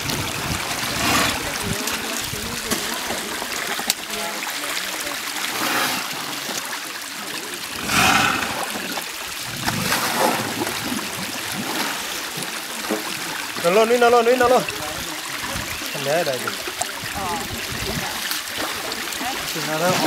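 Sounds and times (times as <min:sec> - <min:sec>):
elephants splashing in water: 0:00.0 - 0:20.0
river water running: 0:00.0 - 0:20.0.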